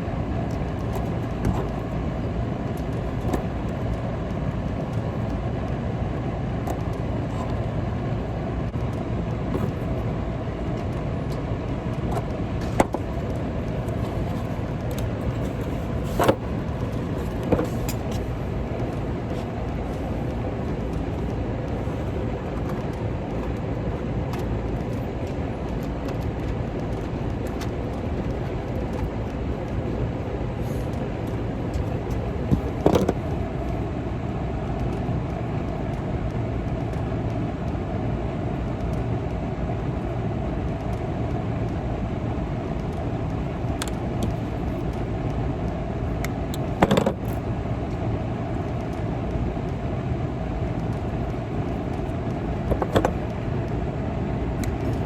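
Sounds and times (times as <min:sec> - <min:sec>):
faint constant hum: 0:00.0 - 0:55.0.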